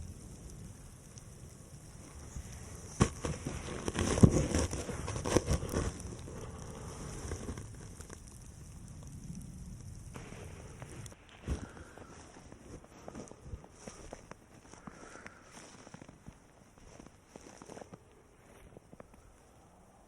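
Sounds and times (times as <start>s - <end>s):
close rustling and crackling: 0.0s - 19.5s
soft steady hiss: 0.0s - 20.0s.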